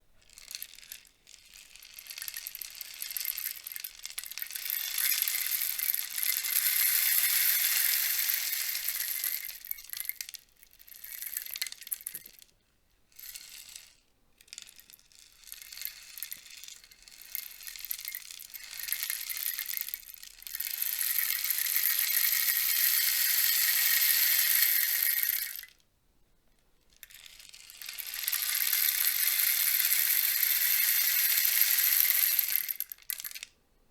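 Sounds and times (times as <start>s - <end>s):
rainstick rattling patter: 0.3s - 12.5s, 14.5s - 25.8s, 27.0s - 33.5s.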